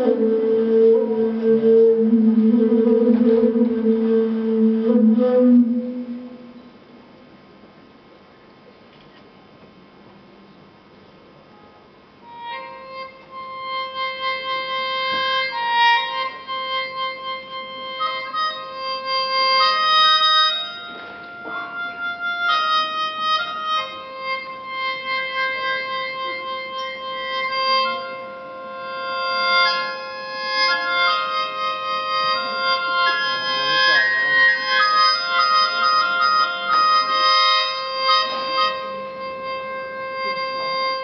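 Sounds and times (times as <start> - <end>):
wind instrument music: 0.0 - 6.6, 11.5 - 41.0.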